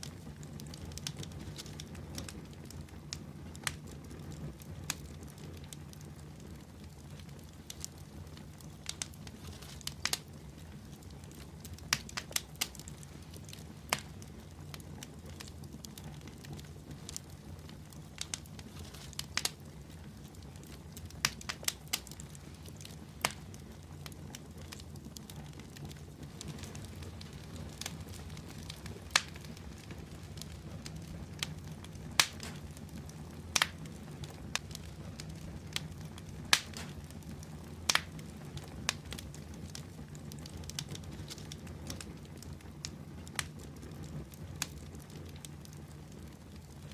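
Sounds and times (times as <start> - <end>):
fireplace fire crackling and popping: 0.0 - 46.9.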